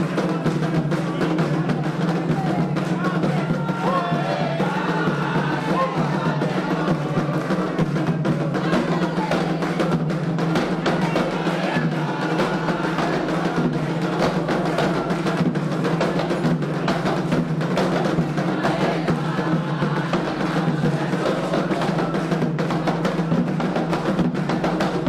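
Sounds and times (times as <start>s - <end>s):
hand drums and percussion: 0.0s - 25.0s.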